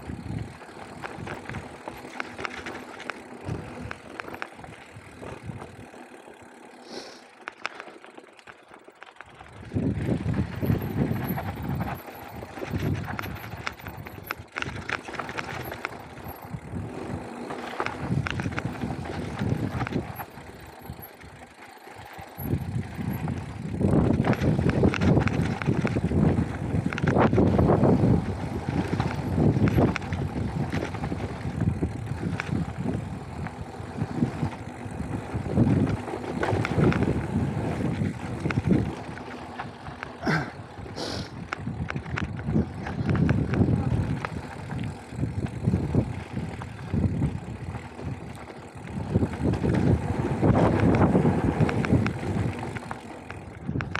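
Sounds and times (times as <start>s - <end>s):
bike rattling and clicking: 0.0s - 53.9s
bike tyres rolling on dirt: 0.0s - 53.9s.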